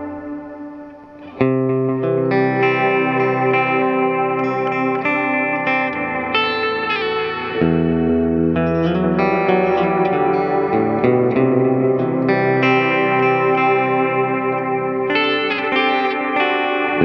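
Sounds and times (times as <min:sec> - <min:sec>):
electric guitar chords with echo: 0:00.0 - 0:17.0.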